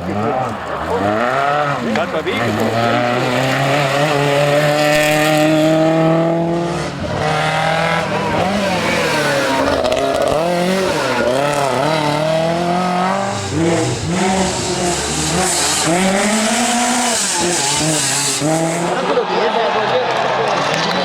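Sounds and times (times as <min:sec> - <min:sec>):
rally car engine revving hard: 0:00.0 - 0:21.0.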